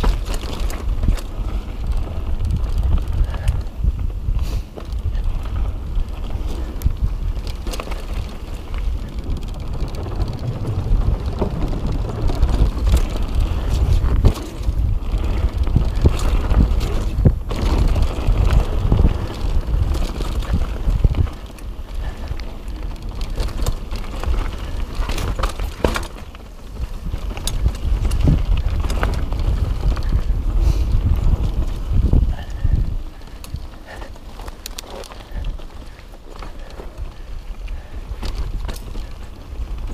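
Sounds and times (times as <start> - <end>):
bike knocking and rattling: 0.0 - 39.9
tyres rolling on dirt: 0.0 - 39.9
wind rumble on microphone: 0.0 - 39.9.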